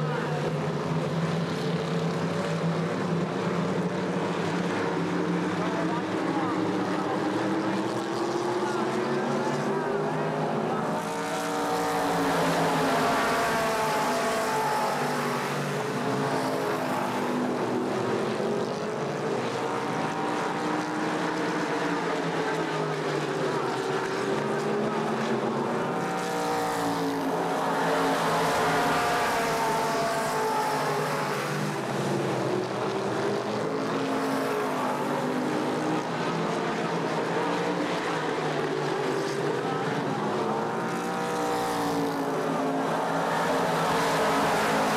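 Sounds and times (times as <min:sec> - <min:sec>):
race car engines passing: 0:00.0 - 0:44.9.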